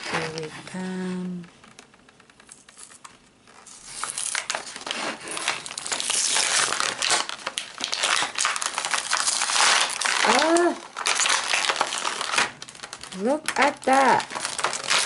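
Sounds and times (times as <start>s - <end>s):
plastic packaging crinkling: 0.0s - 0.8s, 1.5s - 15.0s.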